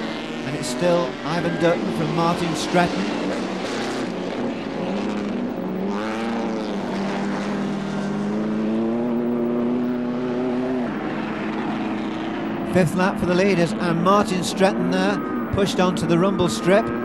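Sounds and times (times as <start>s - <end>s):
racing car engines passing: 0.0s - 17.0s.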